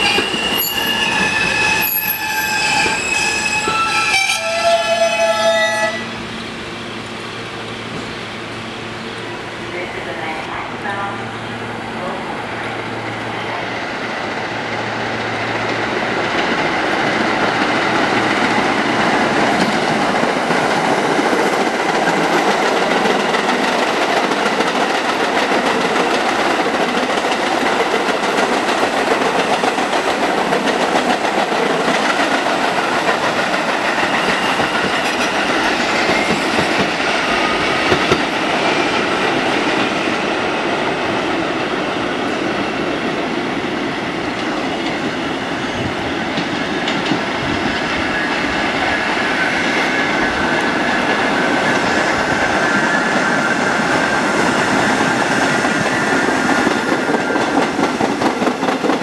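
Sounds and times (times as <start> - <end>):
subway train wheels clicking: 0.0 - 59.0.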